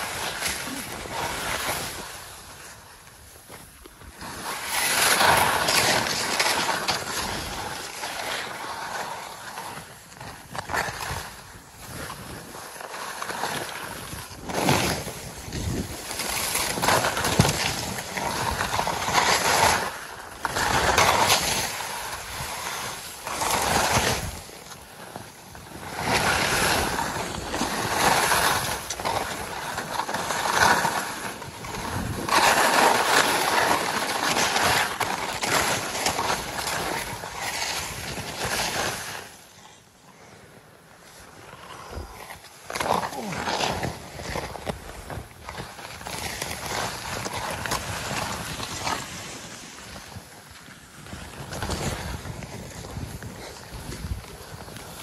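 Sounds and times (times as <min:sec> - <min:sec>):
skis scraping through snow: 0:00.0 - 0:55.0.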